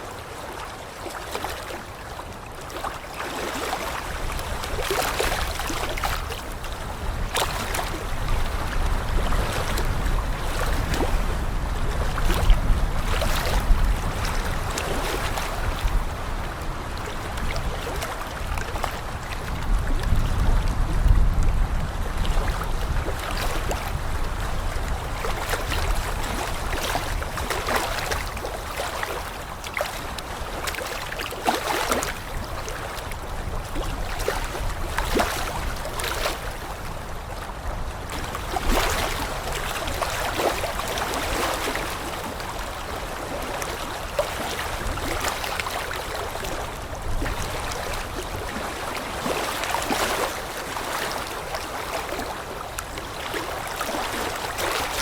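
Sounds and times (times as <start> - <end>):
water flowing and splashing: 0.0 - 55.0
water sloshing: 0.6 - 20.2, 22.2 - 55.0.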